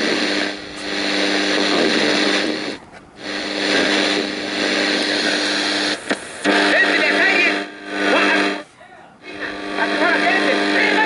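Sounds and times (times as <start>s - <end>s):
low hum: 0.0s - 11.0s
radio hiss: 0.0s - 11.0s.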